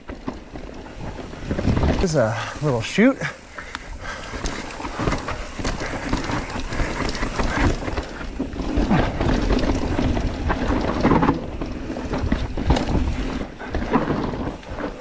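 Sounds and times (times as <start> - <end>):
bike clattering over roots: 0.0 - 15.0.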